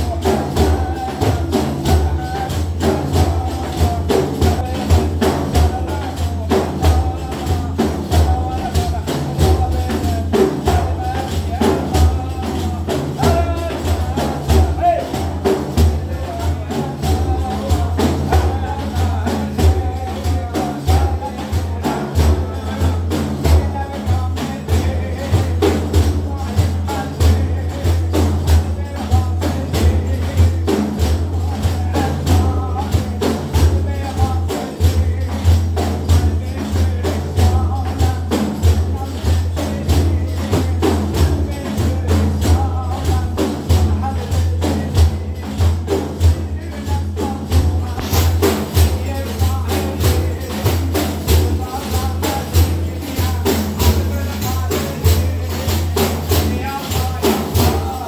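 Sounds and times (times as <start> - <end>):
frame drums beating: 0.0 - 58.0
person singing a hymn: 0.0 - 58.0.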